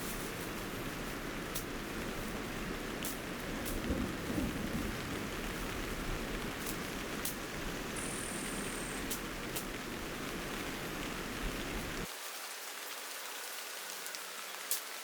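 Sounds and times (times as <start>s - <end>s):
sharp raindrops: 0.0s - 15.0s
steady rain: 0.0s - 15.0s.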